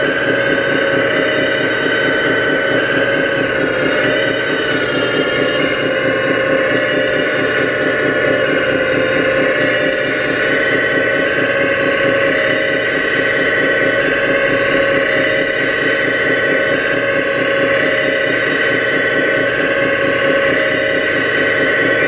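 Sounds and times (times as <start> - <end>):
hydraulic pump whining: 0.0 - 22.0.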